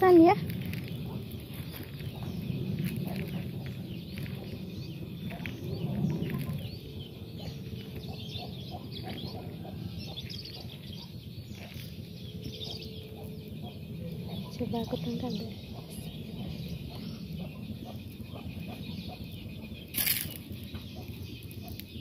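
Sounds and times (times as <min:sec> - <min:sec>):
low background rumble: 0:00.0 - 0:22.0
small birds chirping: 0:00.0 - 0:22.0.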